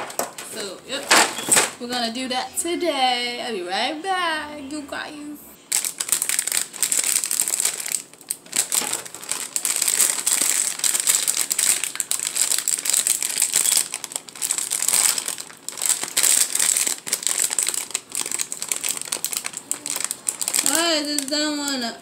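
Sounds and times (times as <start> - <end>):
plastic bag crinkling: 0.0 - 1.7, 5.7 - 22.0.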